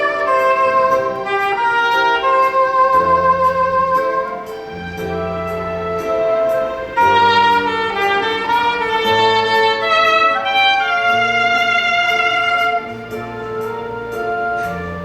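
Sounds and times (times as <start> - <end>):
light steady beat: 0.0 - 15.0
low bass line: 0.0 - 15.0
soprano saxophone melody: 0.0 - 15.0.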